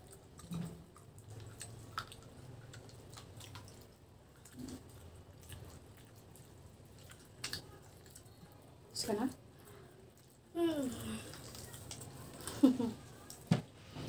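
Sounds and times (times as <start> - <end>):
wet chewing and lip-smacking: 0.0 - 13.5.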